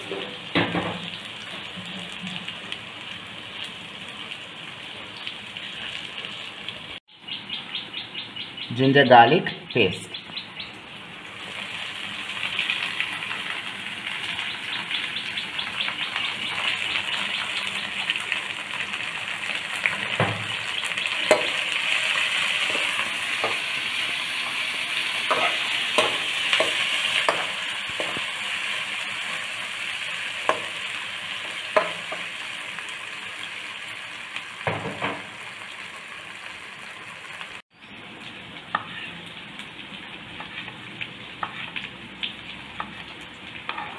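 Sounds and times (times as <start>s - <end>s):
onions sizzling in oil: 0.0s - 7.0s, 10.8s - 43.9s.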